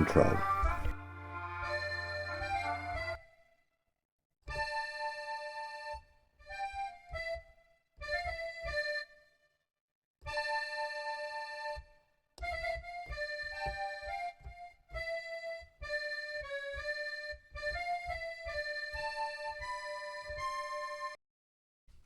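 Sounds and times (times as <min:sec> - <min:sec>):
accordion music: 0:00.0 - 0:03.5, 0:04.5 - 0:09.2, 0:10.3 - 0:21.2.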